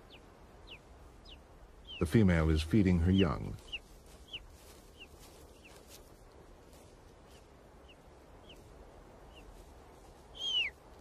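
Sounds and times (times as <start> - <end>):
eagle chicks peeping: 0.0 - 6.3, 7.1 - 11.0.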